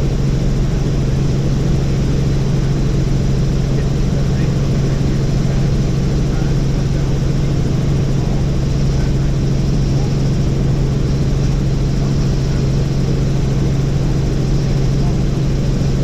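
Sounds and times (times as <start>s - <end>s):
helicopter rotor and engine drone: 0.0s - 16.0s.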